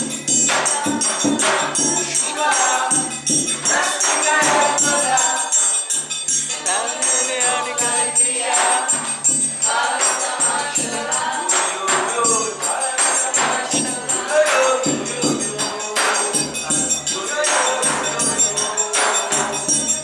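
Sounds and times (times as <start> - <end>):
drums beating: 0.0 - 20.0
people singing: 0.0 - 20.0
triangle ringing: 0.0 - 20.0.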